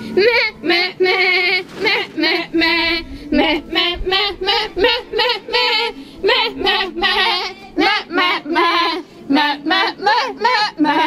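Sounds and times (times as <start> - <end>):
high voice singing with vibrato: 0.0 - 11.0.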